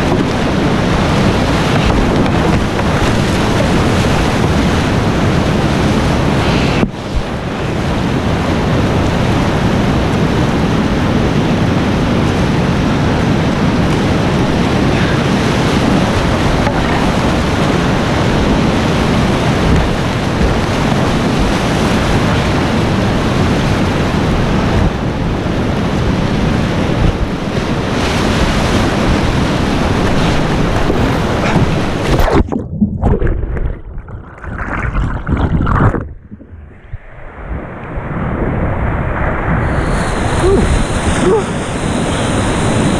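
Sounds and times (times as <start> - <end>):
whitewater rushing and splashing: 0.0 - 42.9.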